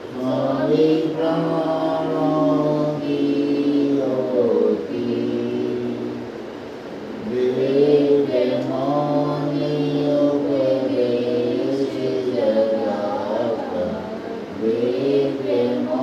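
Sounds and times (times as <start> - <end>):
voices chanting in held notes: 0.0 - 16.0.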